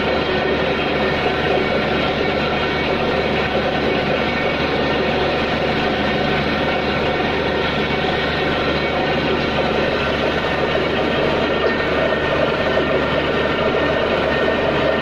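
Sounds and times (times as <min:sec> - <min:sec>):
drilling rig engine drone: 0:00.0 - 0:15.0.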